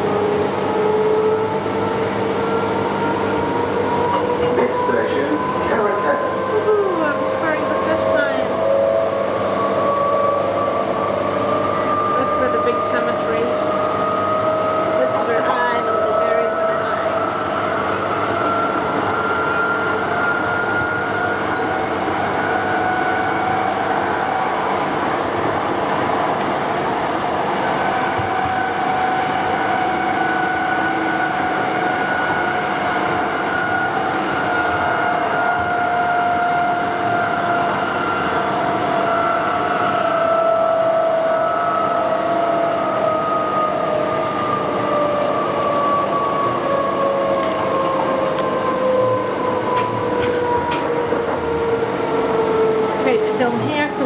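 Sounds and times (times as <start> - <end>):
train rumble and rail noise: 0.0 - 54.0.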